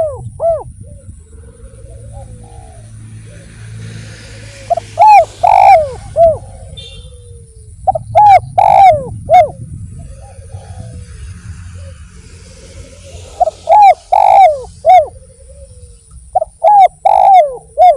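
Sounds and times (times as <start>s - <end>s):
dove cooing: 0.0s - 17.9s
faint coos of other doves: 0.0s - 17.9s.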